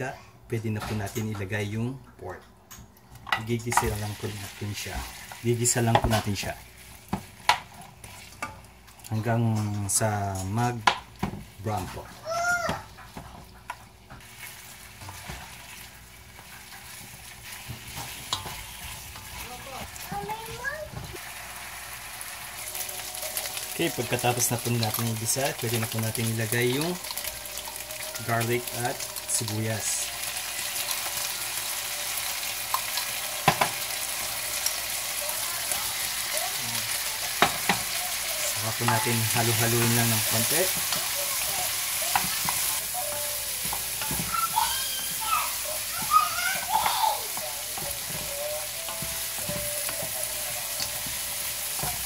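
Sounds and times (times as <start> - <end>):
meat sizzling in hot oil: 3.6 - 9.4, 13.9 - 52.0.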